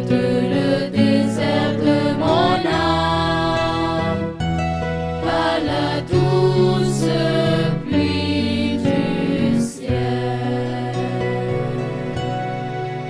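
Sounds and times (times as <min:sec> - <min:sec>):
choir singing: 0:00.0 - 0:04.5, 0:05.1 - 0:13.0
organ playing hymn chords: 0:00.0 - 0:13.0.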